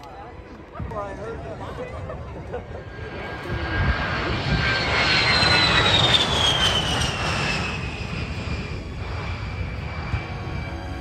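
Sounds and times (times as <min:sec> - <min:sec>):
high jet engine whine: 0:00.0 - 0:11.0
jet aircraft passing: 0:00.4 - 0:11.0.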